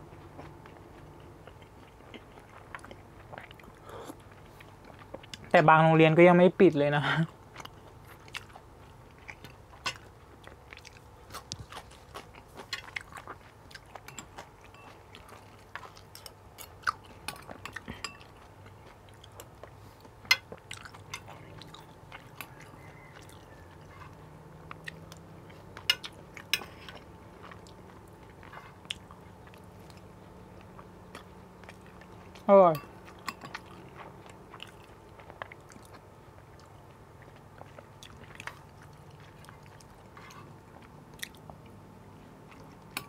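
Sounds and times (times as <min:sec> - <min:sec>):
close chewing: 0:00.0 - 0:05.7, 0:07.2 - 0:43.0
faint steady hum: 0:00.0 - 0:43.0.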